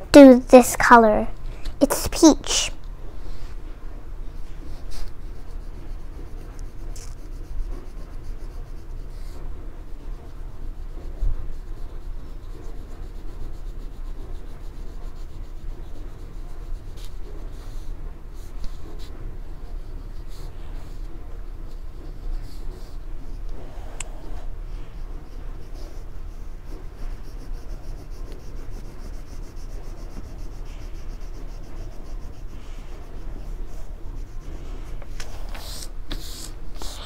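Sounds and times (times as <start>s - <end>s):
oil pastel rubbing on paper: 4.2s - 37.0s.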